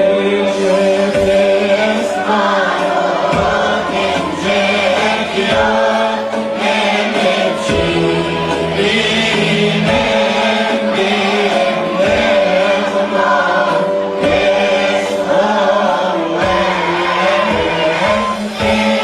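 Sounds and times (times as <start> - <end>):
church choir singing hymn: 0.0 - 19.0
sustained low accompaniment: 0.0 - 19.0.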